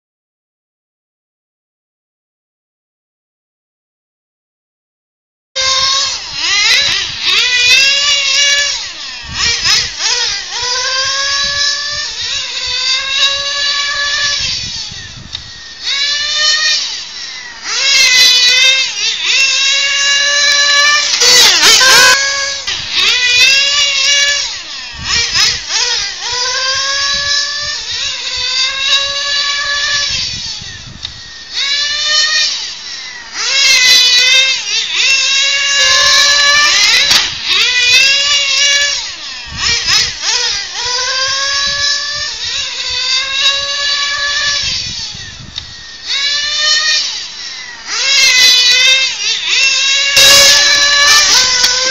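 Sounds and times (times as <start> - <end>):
model car engine high revving whine: 5.6 - 51.9.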